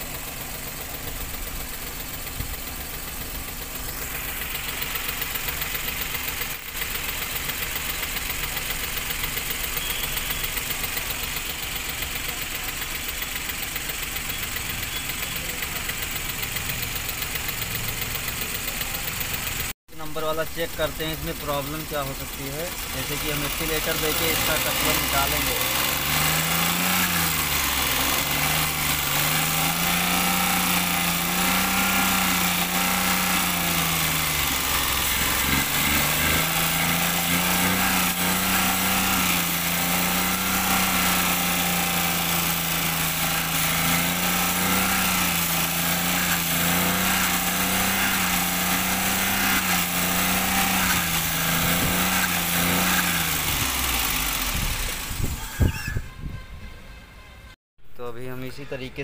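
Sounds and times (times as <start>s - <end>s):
car engine misfiring: 0.0s - 56.5s.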